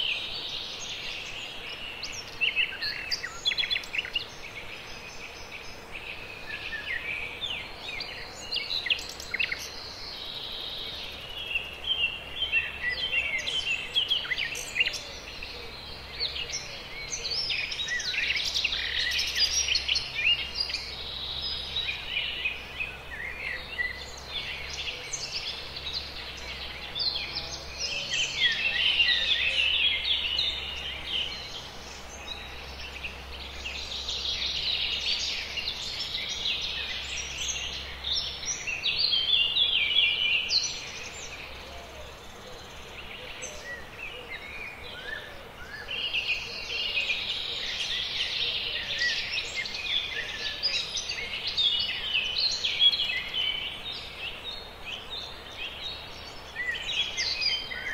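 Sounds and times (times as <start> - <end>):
birds chirping and singing: 0.0 - 57.9.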